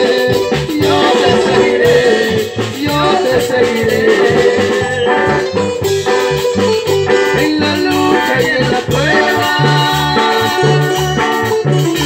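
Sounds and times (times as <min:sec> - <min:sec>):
drum kit and cymbals: 0:00.0 - 0:12.0
repeating bass line: 0:00.0 - 0:12.0.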